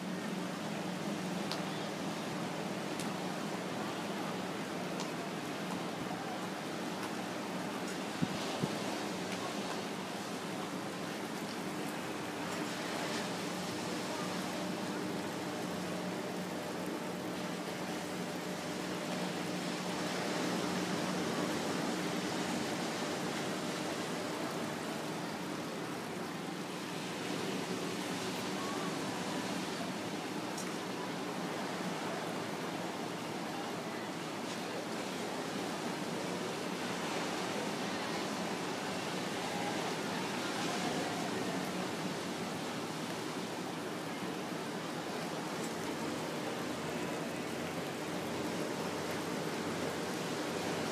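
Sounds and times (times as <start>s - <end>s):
ocean surf: 0.0s - 50.9s.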